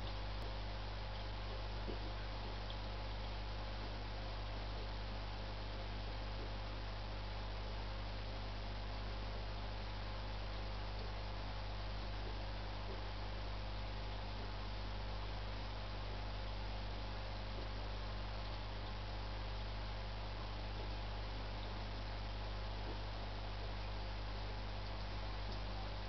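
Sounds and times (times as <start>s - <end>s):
constant hiss: 0.0s - 26.0s
electrical hum: 0.0s - 26.0s.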